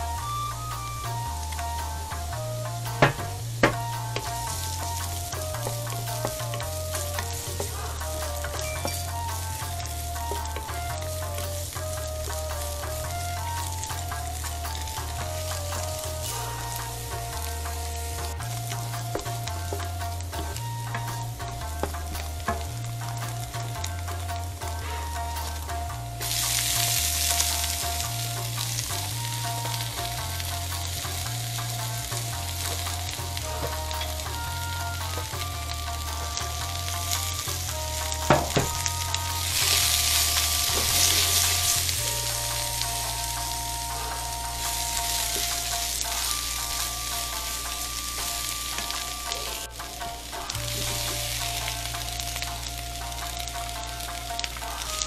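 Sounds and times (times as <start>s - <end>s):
vegetables sizzling in frying pan: 0.0s - 55.0s
wooden spatula stirring: 1.4s - 52.4s.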